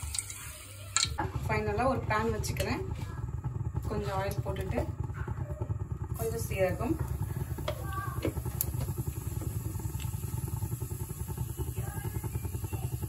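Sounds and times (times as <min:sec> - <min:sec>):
stove rumbling: 0:00.0 - 0:13.0
seeds crackling in oil: 0:02.4 - 0:13.0.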